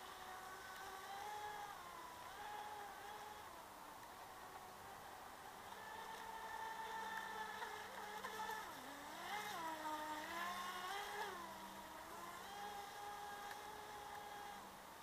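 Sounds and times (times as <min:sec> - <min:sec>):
model speedboat motor whining: 0:00.0 - 0:15.0.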